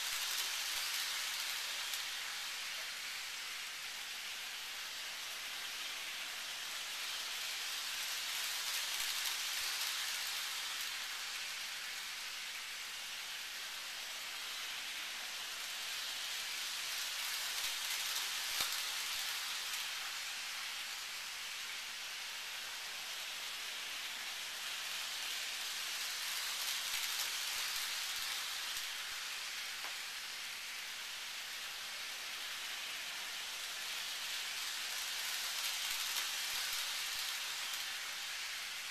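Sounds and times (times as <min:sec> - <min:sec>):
toy train wheels rattling on rails: 0:00.0 - 0:38.9.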